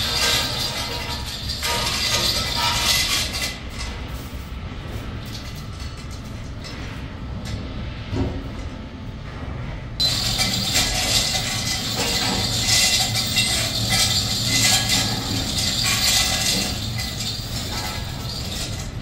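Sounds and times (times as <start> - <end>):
workshop machinery rumble: 0.0 - 19.0.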